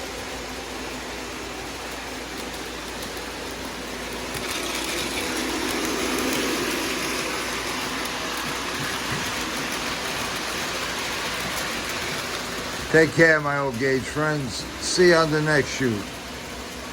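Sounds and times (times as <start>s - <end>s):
freight train rolling past: 0.0s - 16.9s.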